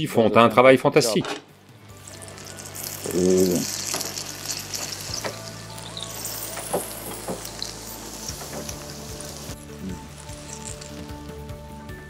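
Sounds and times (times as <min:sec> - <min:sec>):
batter sizzling on griddle: 0:01.9 - 0:11.8.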